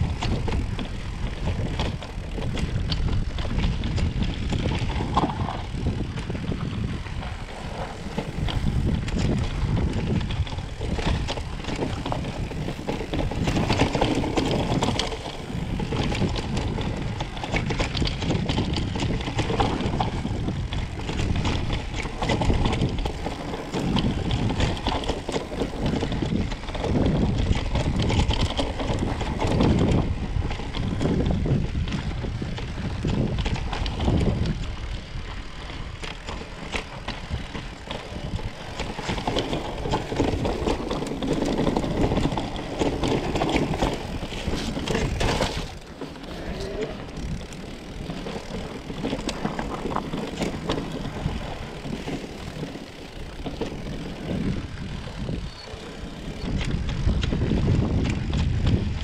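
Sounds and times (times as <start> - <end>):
bike rattling: 0.0 - 59.0
tyres rolling over dirt: 0.0 - 59.0
wind rumbling on microphone: 0.0 - 59.0.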